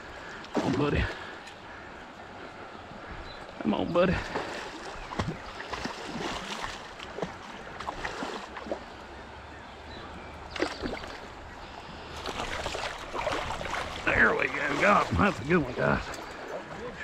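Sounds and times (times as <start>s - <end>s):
stream water running: 0.0s - 17.0s
wind: 0.0s - 17.0s.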